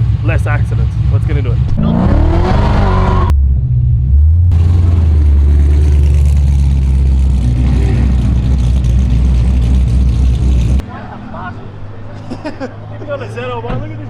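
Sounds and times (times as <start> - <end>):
car engine and exhaust drone: 0.0 - 14.0.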